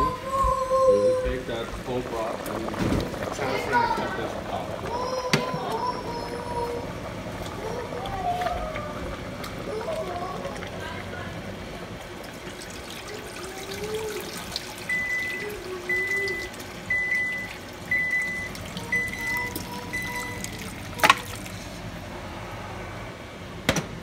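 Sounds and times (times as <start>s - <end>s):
broth pouring into metal pot: 0.7s - 22.0s.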